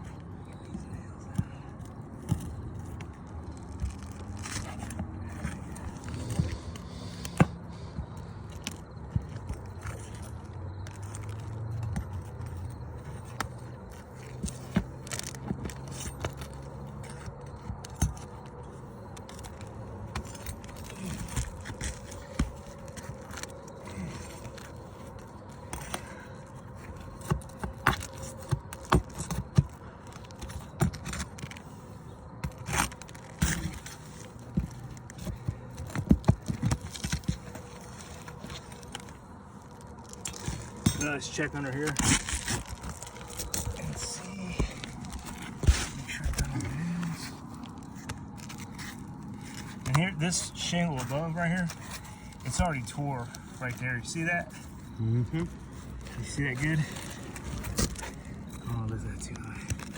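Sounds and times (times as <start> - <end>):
hand tools clicking and scraping: 0.1 - 59.9.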